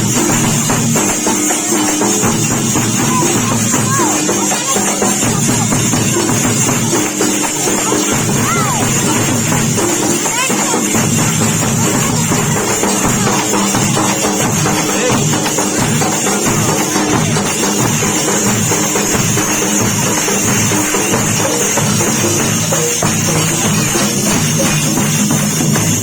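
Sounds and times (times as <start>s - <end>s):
loud drumming: 0.0s - 26.0s.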